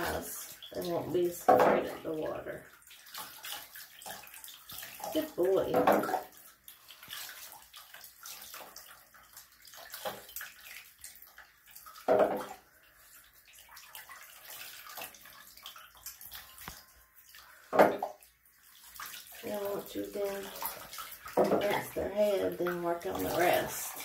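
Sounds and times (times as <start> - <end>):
water splashing in a bathtub: 0.0 - 24.0.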